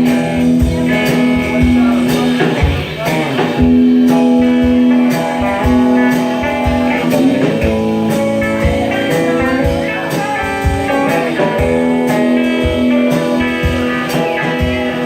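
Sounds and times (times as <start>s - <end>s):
blues guitar: 0.0s - 15.0s
steady drum beat: 0.0s - 15.0s.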